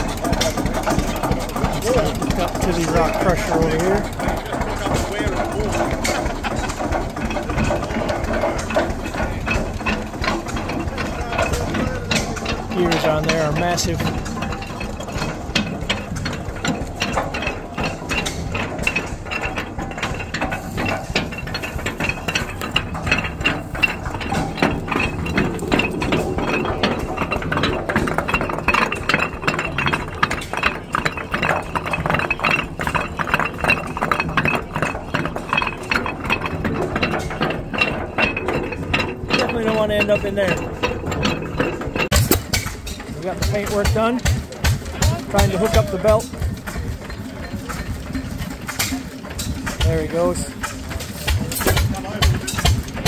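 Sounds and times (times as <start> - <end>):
low machinery hum: 0.0 - 53.0
metal clicks clattering: 0.0 - 53.0.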